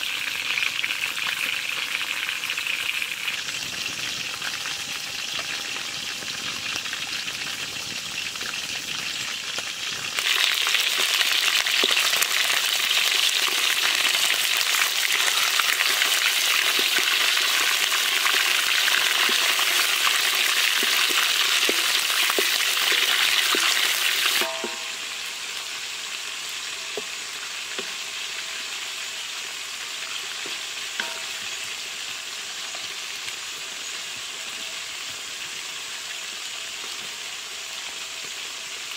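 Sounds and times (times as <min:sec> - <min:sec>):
chicken sizzling in oil: 0:00.0 - 0:38.9.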